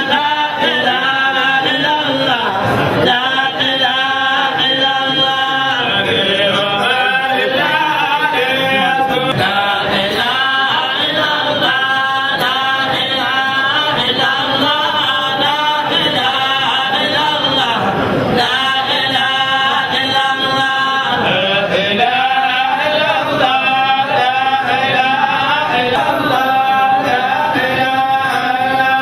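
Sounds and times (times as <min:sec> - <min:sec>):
men chanting together: 0:00.0 - 0:29.0.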